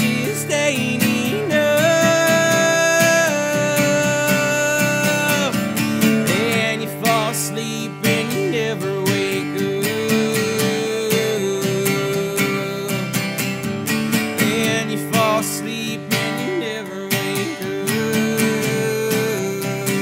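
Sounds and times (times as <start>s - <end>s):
acoustic guitar strummed: 0.0s - 20.0s.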